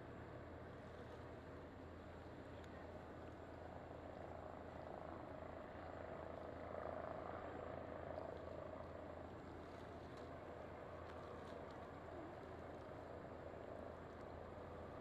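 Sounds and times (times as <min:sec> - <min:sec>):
distant helicopter flying past: 0:00.0 - 0:15.0.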